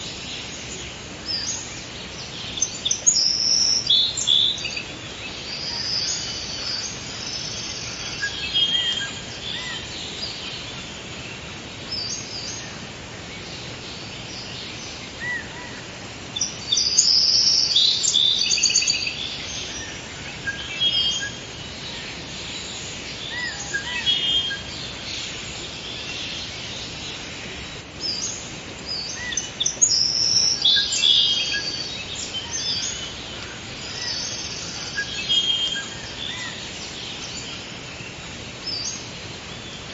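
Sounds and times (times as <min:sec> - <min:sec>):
background hiss: 0:00.0 - 0:39.9
songbirds chirping and singing: 0:00.0 - 0:39.9.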